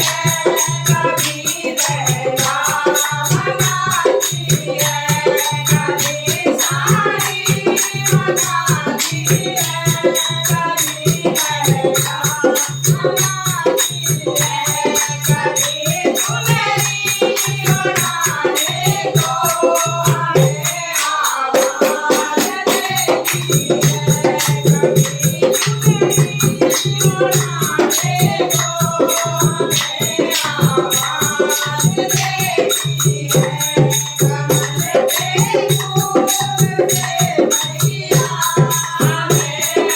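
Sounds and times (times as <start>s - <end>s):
fast rattling percussion beat: 0.0s - 39.9s
person singing devotional song: 0.0s - 39.9s.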